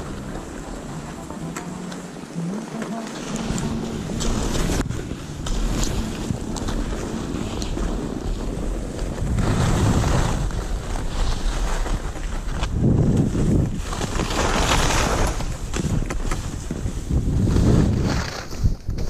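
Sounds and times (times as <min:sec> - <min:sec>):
skis scraping on snow: 0:00.0 - 0:01.4, 0:02.5 - 0:19.0
wind rushing over microphone: 0:03.2 - 0:19.0.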